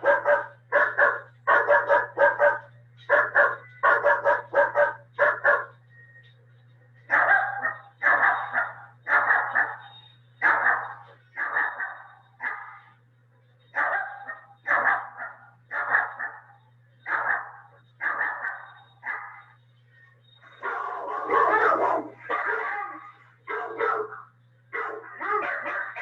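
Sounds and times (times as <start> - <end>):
dog barking: 0.0 - 5.8, 7.1 - 12.9, 13.7 - 19.6, 20.6 - 26.0.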